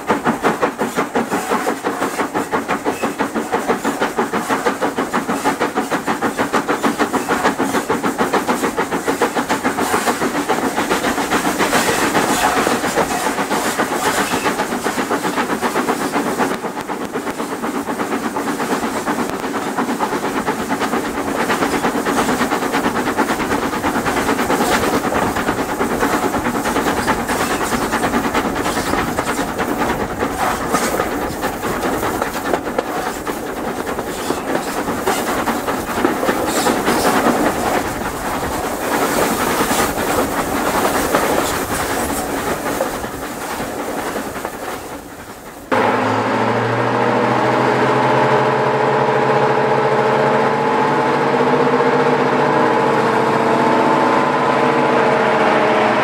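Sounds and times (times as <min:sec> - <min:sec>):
train wheels clicking over rails: 0:00.0 - 0:54.6.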